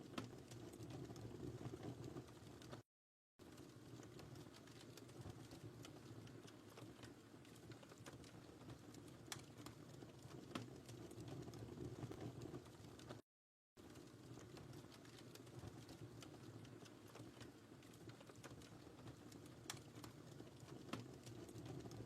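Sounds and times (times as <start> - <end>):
low rumble of flames: 0.0 - 2.8, 3.4 - 13.2, 13.8 - 22.0
wood fire crackling and popping: 0.0 - 2.8, 3.4 - 13.2, 13.8 - 22.0.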